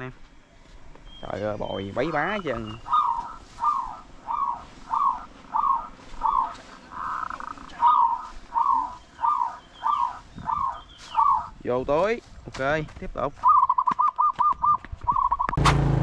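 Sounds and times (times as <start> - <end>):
bird calling: 0.0 - 11.9, 12.8 - 15.6.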